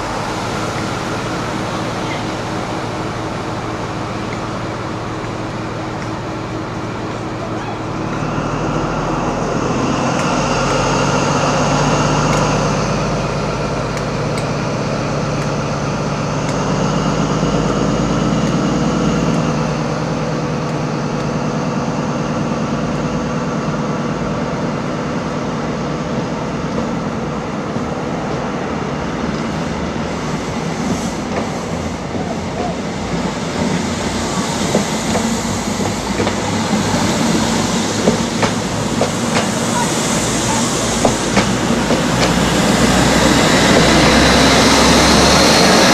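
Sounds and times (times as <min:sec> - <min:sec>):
diesel train engine drone: 0:00.0 - 0:45.9.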